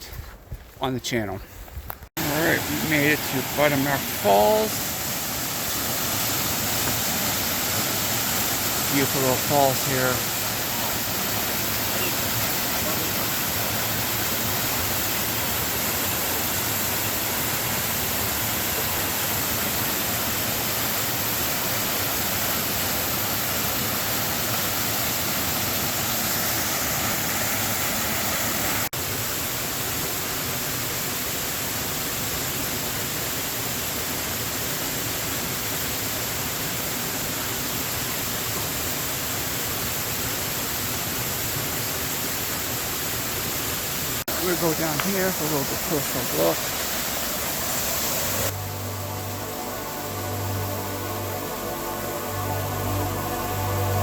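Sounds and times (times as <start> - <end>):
small waterfall pouring: 2.2 - 48.6.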